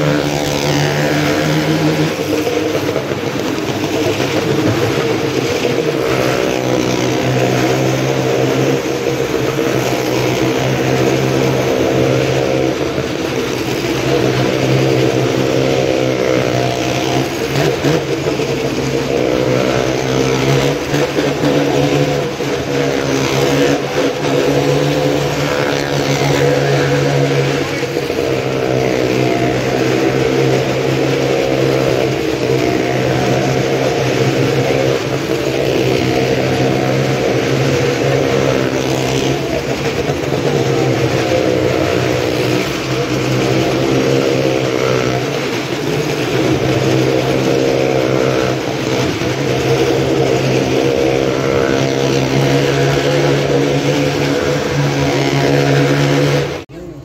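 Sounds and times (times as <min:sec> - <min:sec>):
car engine revving in waves: 0:00.0 - 0:56.7.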